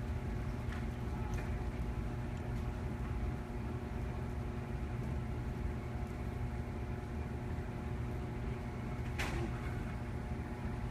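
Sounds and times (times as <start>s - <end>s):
machine hum: 0.0s - 10.9s.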